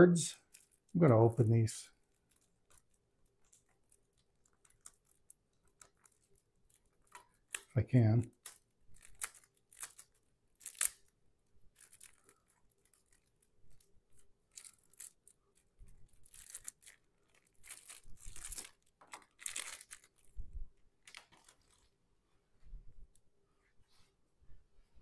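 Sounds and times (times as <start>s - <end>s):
plastic wrapping crinkling and tearing: 0.3s - 21.9s.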